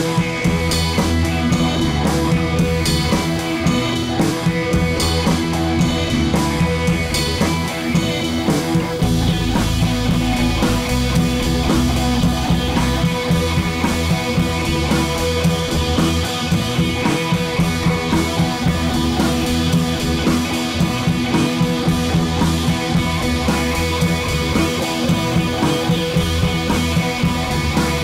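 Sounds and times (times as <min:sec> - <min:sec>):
rock music with drums: 0:00.0 - 0:28.0.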